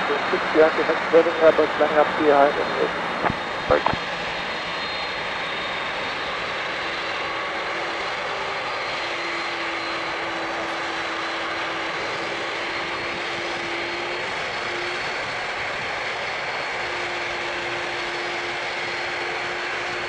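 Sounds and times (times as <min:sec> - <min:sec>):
jet engines at taxi power: 0:00.0 - 0:20.0.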